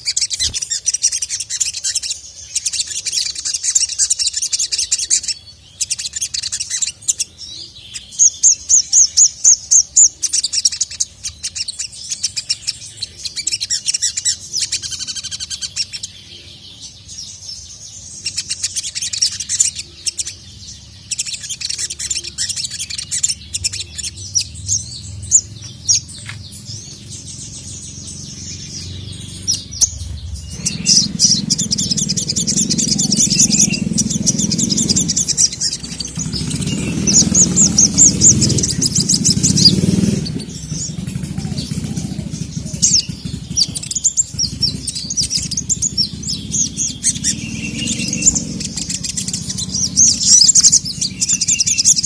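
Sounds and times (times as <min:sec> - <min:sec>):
sunbird chattering song: 0:00.0 - 0:52.0.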